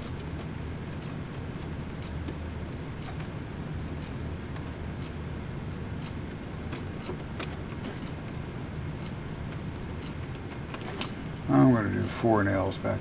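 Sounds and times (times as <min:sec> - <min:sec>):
workshop equipment humming: 0:00.0 - 0:13.0.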